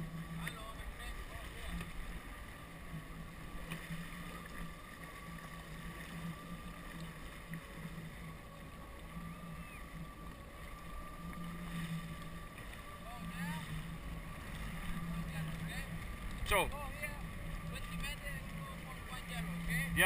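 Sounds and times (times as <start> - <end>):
jet ski engine idling: 0.0 - 20.0.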